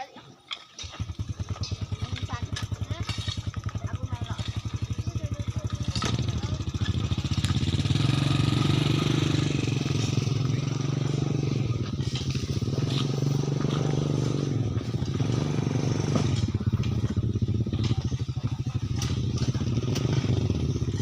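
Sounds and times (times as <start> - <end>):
engine running steadily: 0.8 - 21.0.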